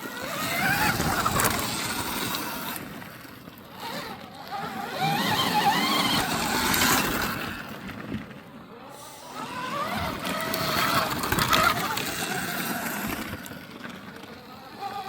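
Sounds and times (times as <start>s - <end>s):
small motorcycle engine revving: 0.0s - 15.0s.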